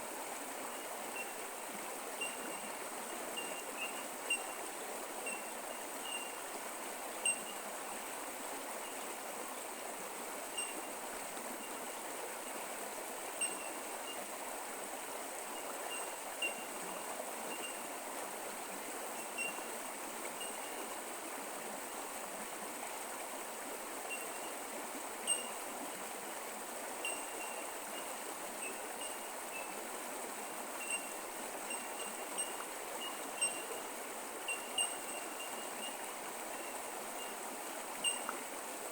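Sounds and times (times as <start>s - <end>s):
creek flowing: 0.0s - 38.9s.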